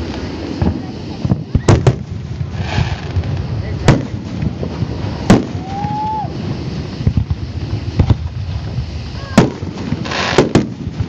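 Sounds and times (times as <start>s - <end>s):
firework whistle: 0.0s - 11.0s
fireworks bangs: 0.0s - 11.0s
wind on microphone: 0.0s - 11.0s.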